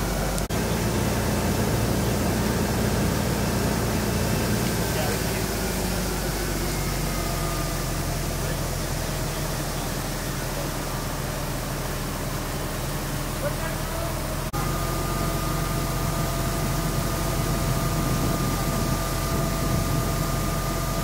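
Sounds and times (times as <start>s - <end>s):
fire engine drone: 0.0s - 21.0s.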